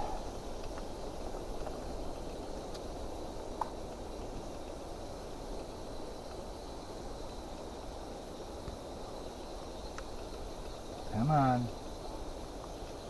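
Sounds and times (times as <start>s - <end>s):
propane heater burning: 0.0s - 13.0s.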